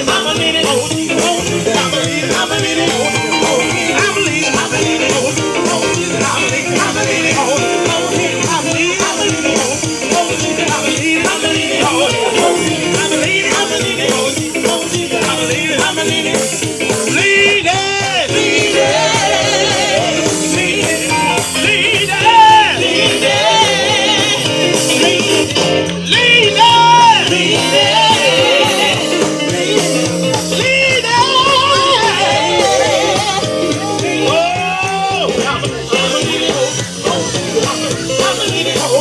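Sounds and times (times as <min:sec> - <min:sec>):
live band music: 0:00.0 - 0:39.0.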